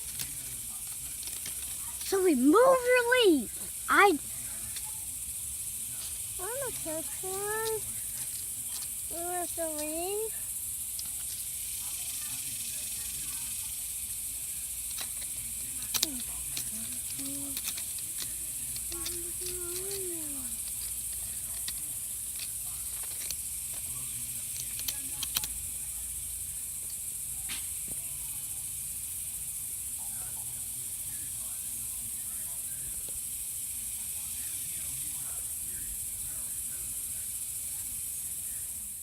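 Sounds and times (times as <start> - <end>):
insect chorus hiss: 0.0 - 39.0.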